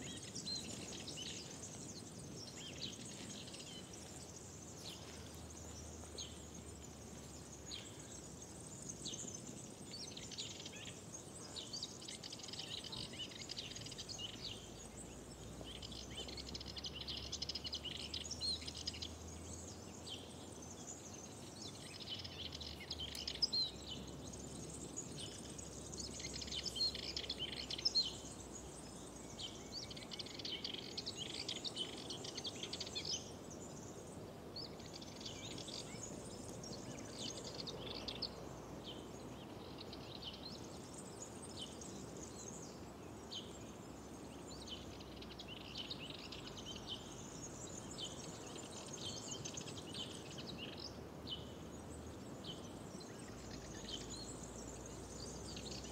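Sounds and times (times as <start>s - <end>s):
faint steady hiss: 0.0s - 55.9s
songbirds chirping and trilling: 0.0s - 55.9s.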